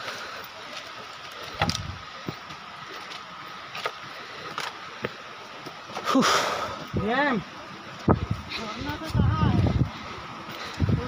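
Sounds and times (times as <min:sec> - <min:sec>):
footsteps on dirt and rock: 0:00.0 - 0:06.2, 0:08.0 - 0:11.0
stream running: 0:00.0 - 0:11.0.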